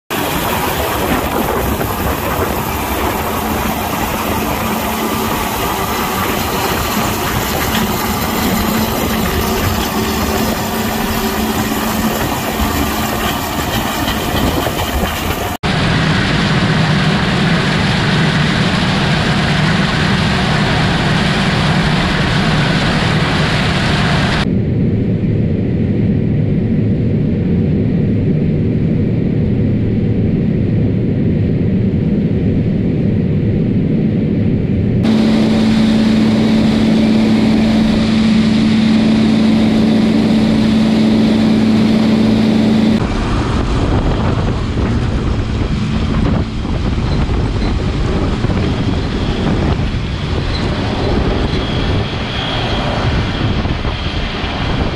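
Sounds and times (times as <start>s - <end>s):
combine harvester running: 0.1s - 24.5s, 35.0s - 54.9s
wind on microphone: 0.1s - 54.9s.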